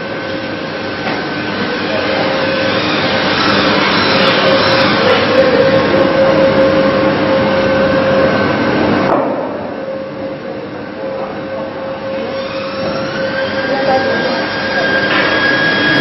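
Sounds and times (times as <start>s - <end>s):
factory machine hiss and hum: 0.0s - 16.0s.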